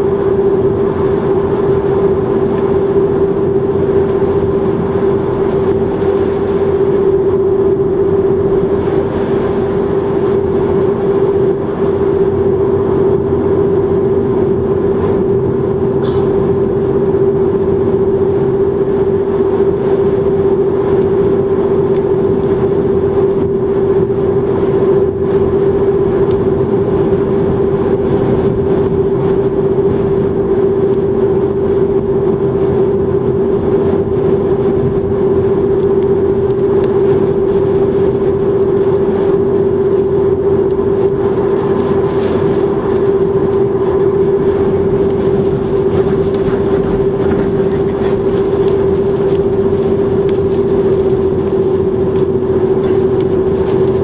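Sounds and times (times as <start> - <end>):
car cabin engine drone: 0.0 - 54.0
tyre and road noise: 0.0 - 54.0.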